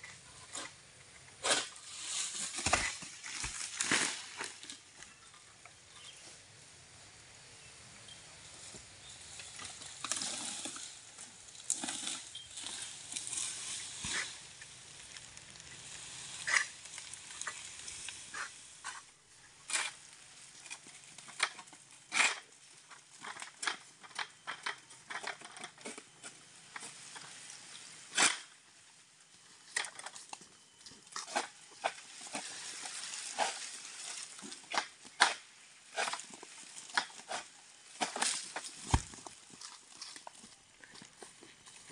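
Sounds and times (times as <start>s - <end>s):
palm fronds rustling: 0.0s - 6.4s, 8.4s - 41.9s.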